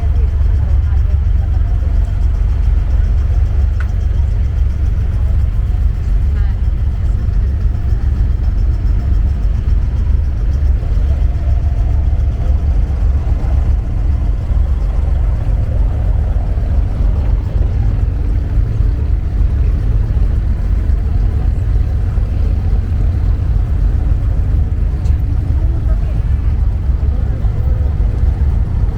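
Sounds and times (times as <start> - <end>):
boat engine rumbling: 0.0 - 28.9.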